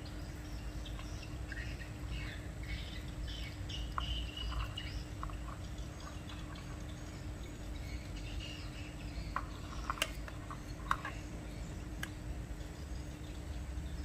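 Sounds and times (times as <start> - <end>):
faint bird chirps: 0.0 - 14.0
steady low hum: 0.0 - 14.0.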